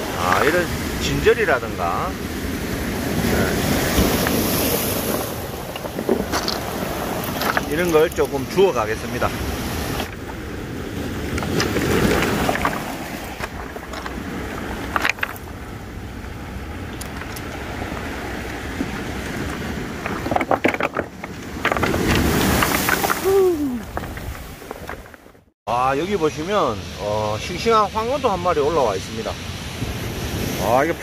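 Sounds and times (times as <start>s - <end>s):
waves washing over stony beach: 0.0s - 25.0s, 26.0s - 31.0s
wind rumbling on microphone: 0.0s - 25.5s.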